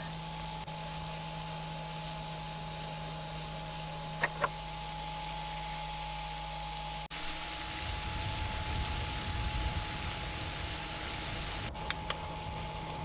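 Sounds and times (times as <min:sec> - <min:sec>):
gas stove hum and hiss: 0:00.0 - 0:13.0.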